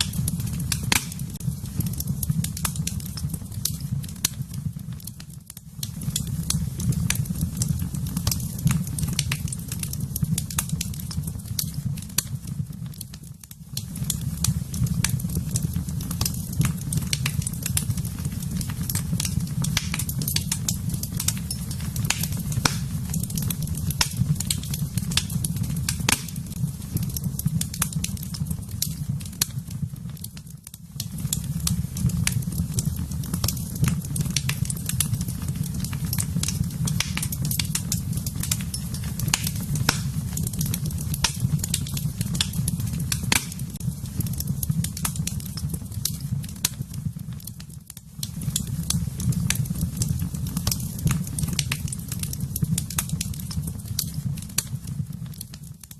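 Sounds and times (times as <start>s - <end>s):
fire crackling and popping: 0.0s - 55.9s
fire rumbling in fireplace: 0.0s - 55.9s.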